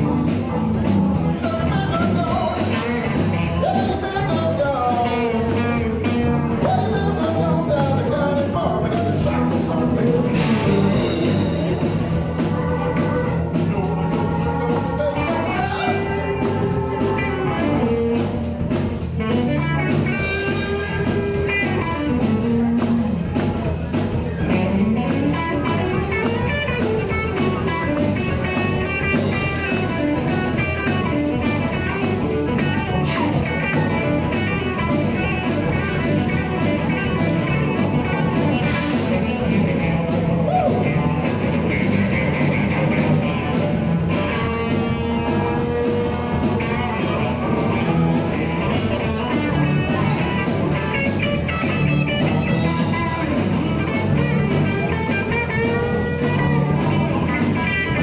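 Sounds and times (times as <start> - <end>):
bending electric guitar lead notes: 0.0 - 58.0
blues-rock band playing: 0.0 - 58.0.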